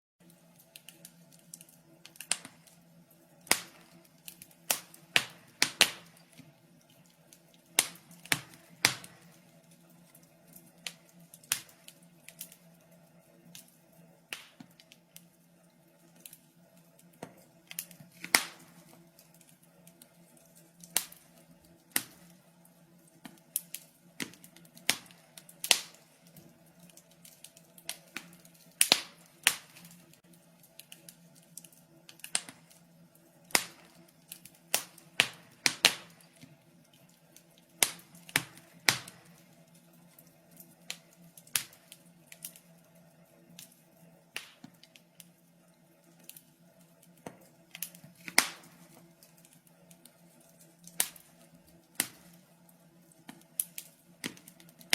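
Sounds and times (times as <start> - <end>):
wood fire crackling: 0.2 - 54.9.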